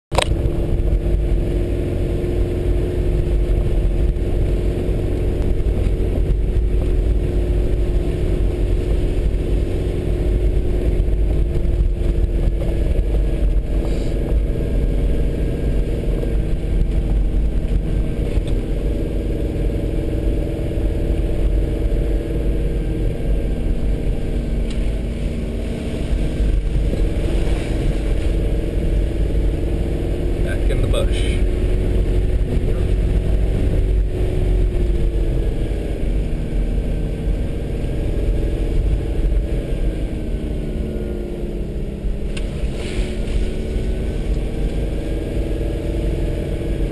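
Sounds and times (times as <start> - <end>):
tyres rumbling on dirt track: 0.1 - 46.9
vehicle engine hum: 0.1 - 46.9.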